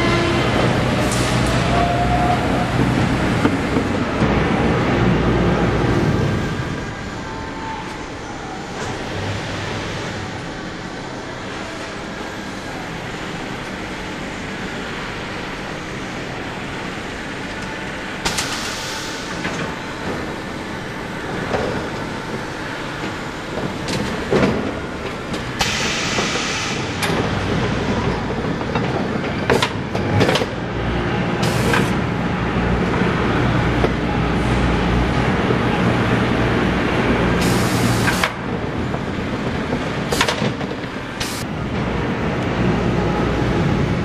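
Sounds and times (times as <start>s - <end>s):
conveyor machinery hum and rattle: 0.0s - 44.0s
crates rolling on conveyor: 0.0s - 44.0s.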